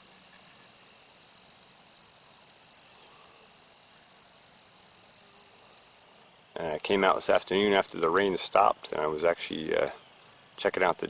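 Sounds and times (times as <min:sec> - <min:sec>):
cricket chirping in pulses: 0:00.0 - 0:11.0
cricket high-pitched trill: 0:00.0 - 0:11.0.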